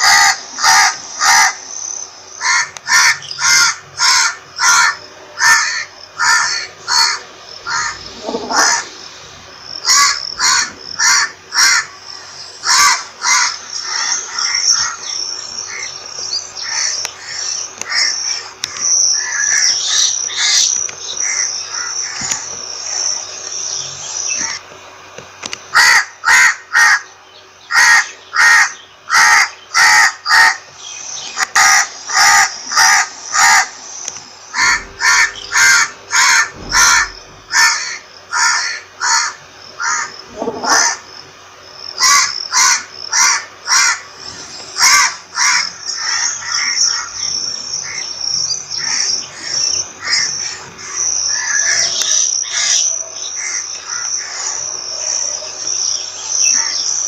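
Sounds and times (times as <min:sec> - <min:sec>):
crows cawing: 0:00.0 - 0:09.0, 0:09.8 - 0:16.0, 0:16.6 - 0:22.3, 0:25.7 - 0:33.8, 0:34.5 - 0:41.1, 0:41.9 - 0:44.2, 0:44.8 - 0:48.1, 0:48.8 - 0:54.5.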